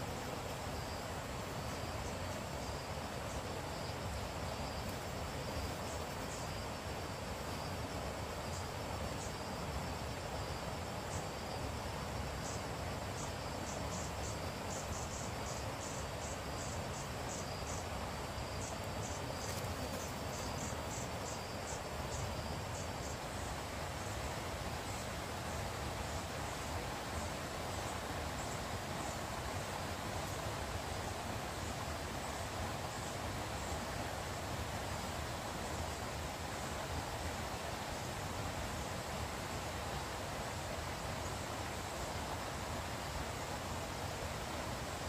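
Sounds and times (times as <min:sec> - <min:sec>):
background hiss: 0:00.0 - 0:45.0
insects trilling: 0:00.0 - 0:45.0.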